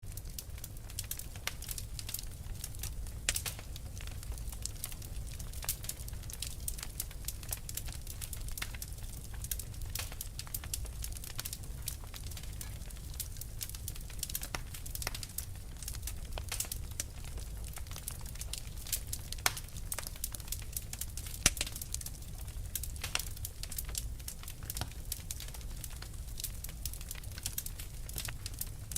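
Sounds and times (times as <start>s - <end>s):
low rumble of flames: 0.0s - 28.9s
wood fire crackling and popping: 0.0s - 28.9s.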